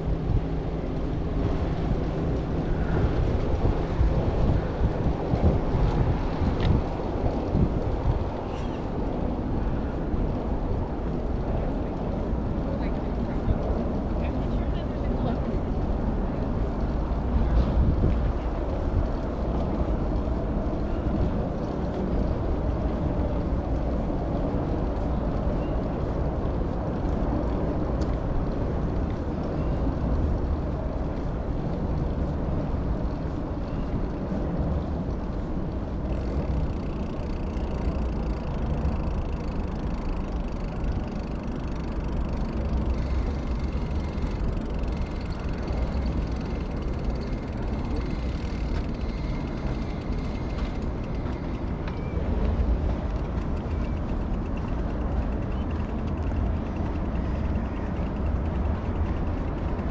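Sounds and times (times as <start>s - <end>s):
bicycle road noise: 0.0s - 59.9s
wind rumble on microphone: 0.0s - 59.9s.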